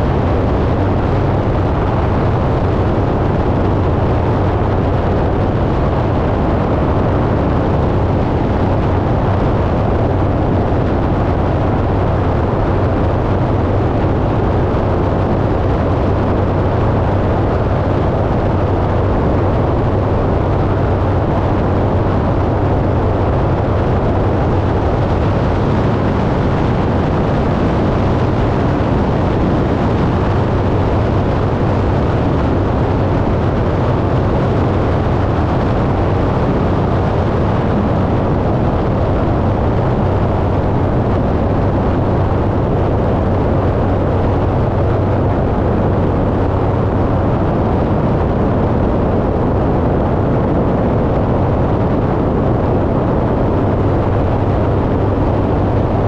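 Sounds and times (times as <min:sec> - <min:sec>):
rushing air noise: 0:00.0 - 0:56.0
small aircraft engine drone: 0:00.0 - 0:56.0.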